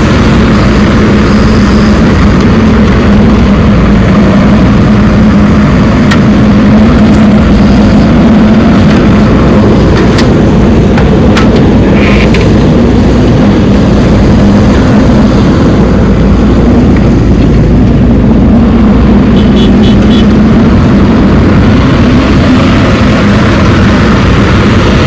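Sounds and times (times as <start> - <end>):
loud motor humming: 0.0 - 25.0.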